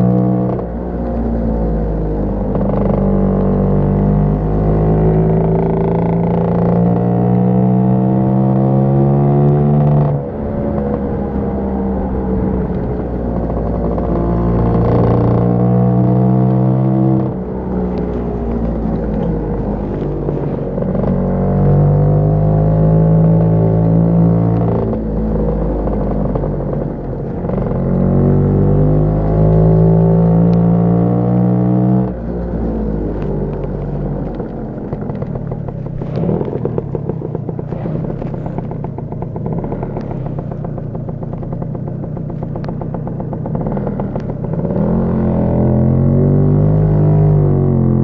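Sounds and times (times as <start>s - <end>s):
scooter engine revving: 0.0s - 48.0s.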